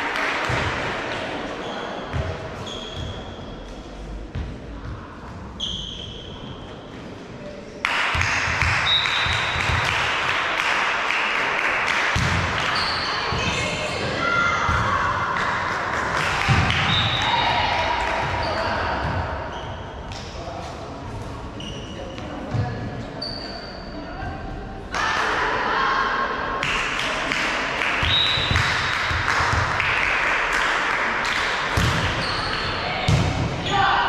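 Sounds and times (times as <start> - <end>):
background noise: 0.0 - 34.0
voices echoing in hall: 0.0 - 34.0.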